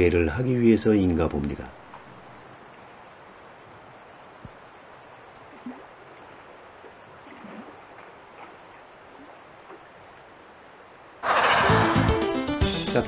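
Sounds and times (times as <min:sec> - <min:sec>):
flowing river water: 0:00.0 - 0:12.2.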